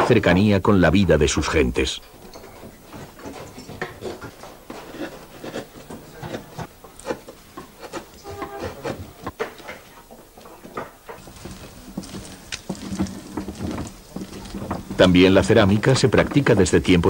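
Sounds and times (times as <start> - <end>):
tools tapping and scraping wood: 2.0 - 17.0.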